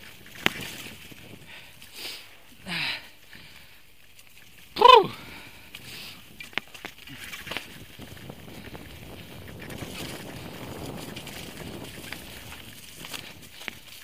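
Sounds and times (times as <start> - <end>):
bike tyres rolling over stones: 0.0 - 14.0.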